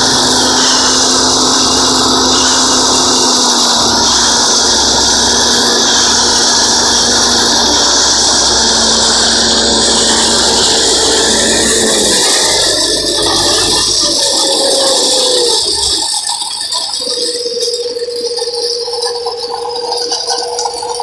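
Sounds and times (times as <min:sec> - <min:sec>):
concrete mixer diesel engine running: 0:00.0 - 0:21.0
machinery whine: 0:00.0 - 0:21.0.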